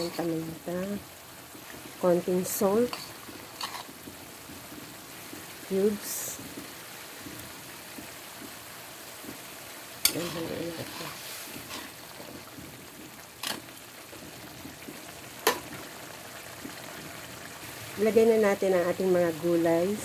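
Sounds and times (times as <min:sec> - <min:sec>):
broth simmering and bubbling: 0:00.0 - 0:20.0.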